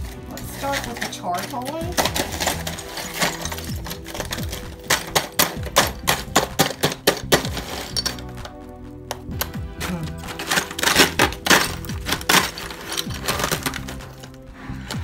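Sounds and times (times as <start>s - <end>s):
ice cubes clinking in a bowl: 0.0s - 8.6s, 9.8s - 14.4s
background music with sustained notes: 0.0s - 15.0s.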